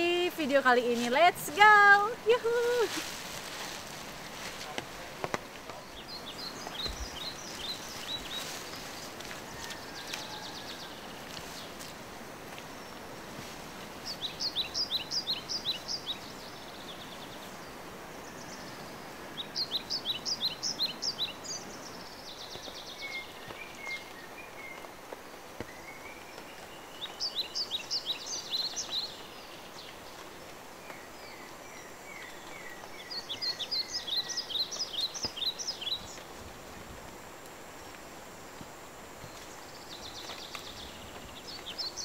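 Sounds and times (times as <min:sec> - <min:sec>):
forest background hiss: 0:00.0 - 0:42.0.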